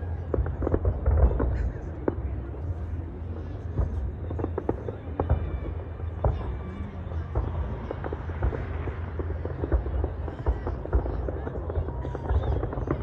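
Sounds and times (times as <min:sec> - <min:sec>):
distant fireworks bangs and crackles: 0:00.0 - 0:13.0
steady low rumble: 0:00.0 - 0:13.0.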